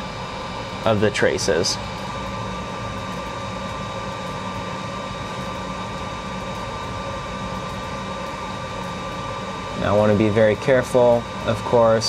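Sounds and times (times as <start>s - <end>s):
fan whine and hum: 0.0s - 12.0s.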